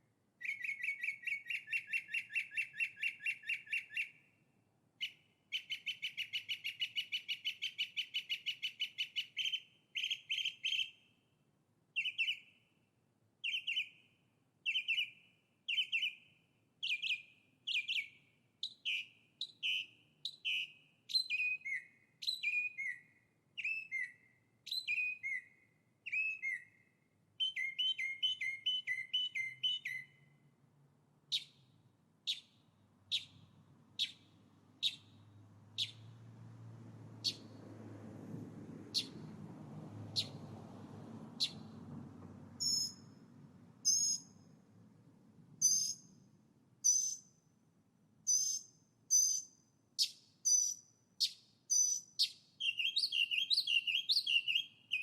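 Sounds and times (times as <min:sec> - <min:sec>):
songbird singing: 0:00.0 - 0:04.4, 0:05.0 - 0:30.5, 0:31.2 - 0:36.4, 0:37.2 - 0:37.6, 0:38.9 - 0:39.4, 0:40.1 - 0:40.5, 0:41.3 - 0:41.8, 0:42.6 - 0:43.2, 0:43.8 - 0:44.6, 0:45.6 - 0:47.5, 0:48.3 - 0:55.0.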